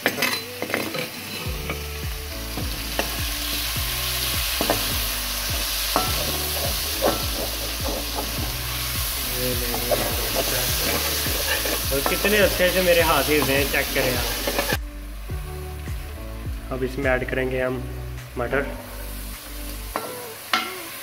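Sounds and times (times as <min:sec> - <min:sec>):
chicken frying sizzle: 0:00.0 - 0:17.6, 0:18.3 - 0:21.0.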